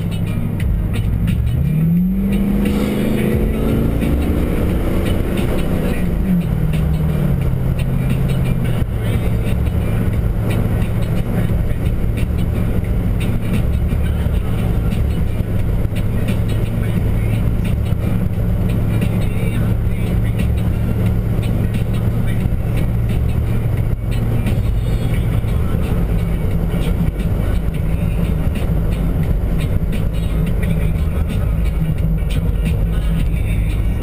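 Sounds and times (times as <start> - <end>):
car exhaust drone inside cabin: 0.0 - 34.0.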